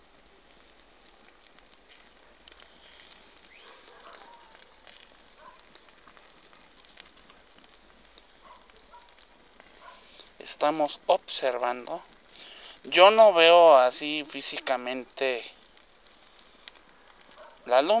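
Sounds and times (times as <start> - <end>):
small pops and ticks: 0.0 - 18.0
wood fire crackling: 0.0 - 18.0.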